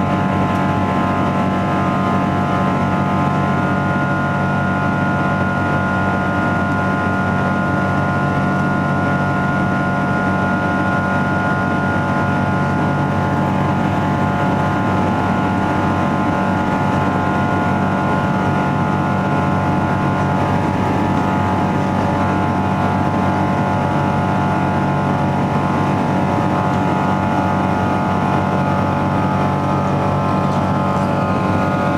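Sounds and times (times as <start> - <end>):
high engine whine: 0.0 - 31.9
jet engine drone in cabin: 0.0 - 31.9.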